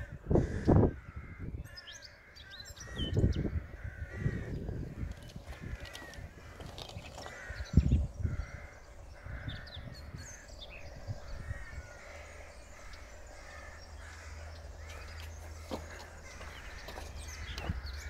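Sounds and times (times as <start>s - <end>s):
birds giving harsh calls: 0.0s - 18.0s
steady low hum: 0.0s - 18.0s.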